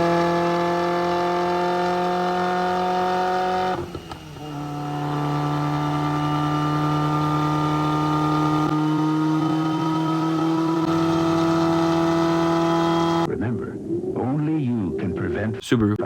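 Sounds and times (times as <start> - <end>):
car engine at high rpm: 0.0 - 13.3.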